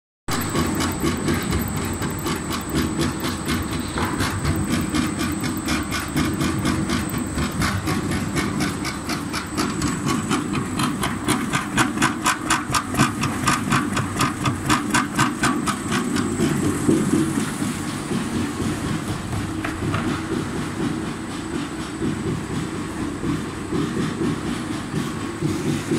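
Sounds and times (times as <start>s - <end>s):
pellet press mechanical drone: 0.3s - 25.9s.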